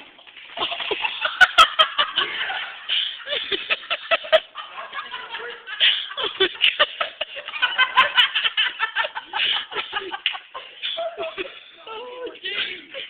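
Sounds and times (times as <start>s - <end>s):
people laughing hard: 0.6s - 13.0s.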